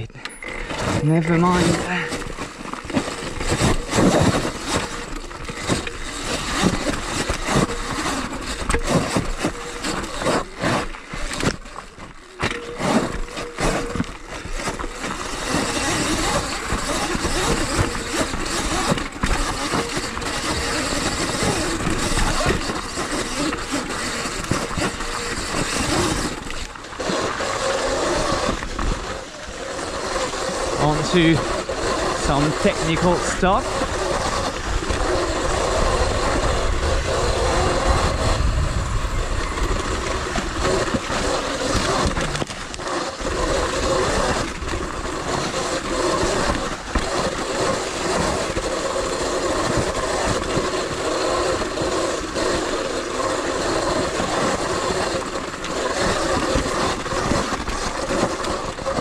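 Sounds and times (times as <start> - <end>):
dirt bike rattling on rocks: 0.2 - 59.0.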